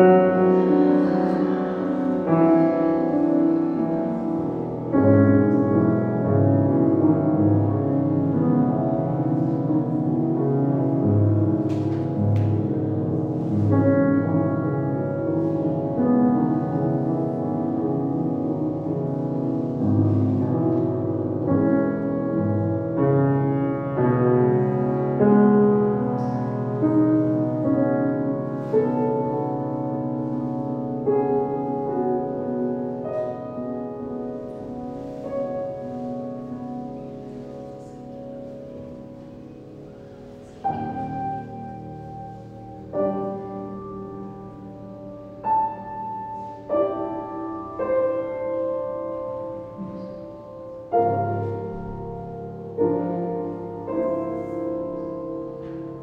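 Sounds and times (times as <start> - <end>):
grand piano chords: 0.0 - 56.0.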